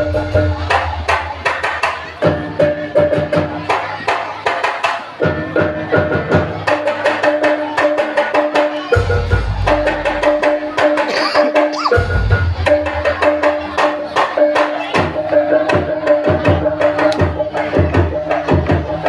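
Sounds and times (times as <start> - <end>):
fast hand-drum strokes: 0.0 - 19.0.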